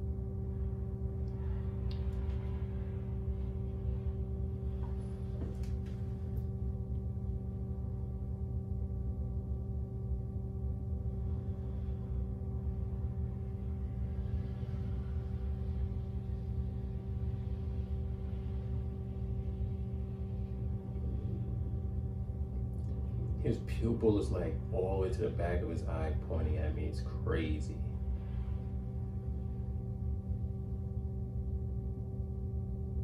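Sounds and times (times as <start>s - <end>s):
low rumble: 0.0s - 33.0s
steady hum of held tones: 0.0s - 33.0s.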